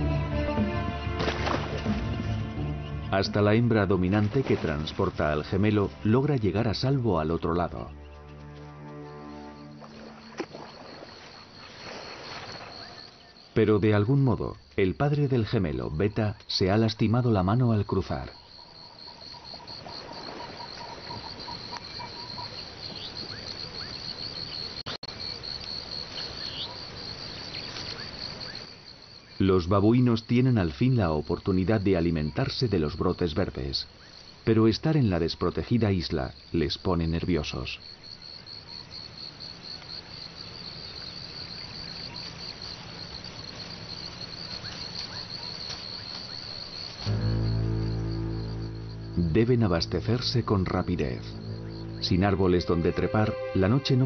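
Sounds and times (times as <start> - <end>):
lower pulsing insect chirr: 0.0 - 54.0
insects chirring high trill: 3.1 - 34.5, 37.8 - 54.0.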